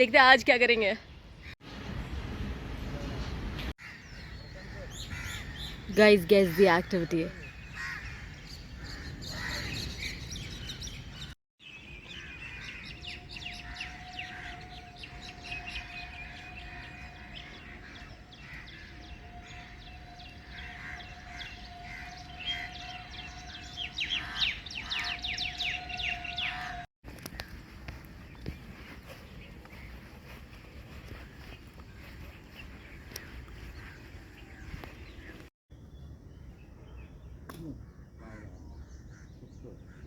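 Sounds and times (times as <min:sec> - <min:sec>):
small birds chirping: 0:03.0 - 0:40.0.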